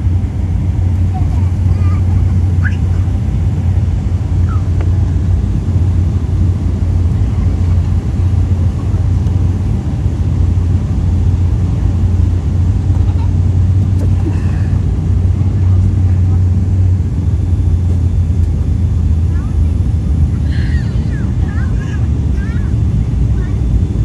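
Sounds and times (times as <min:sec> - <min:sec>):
airliner cabin drone: 0:00.0 - 0:24.0.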